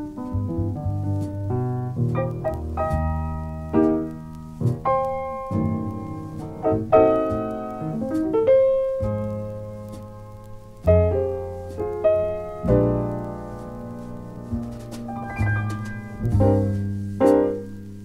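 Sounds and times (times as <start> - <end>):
jazz piano playing: 0.0 - 18.0.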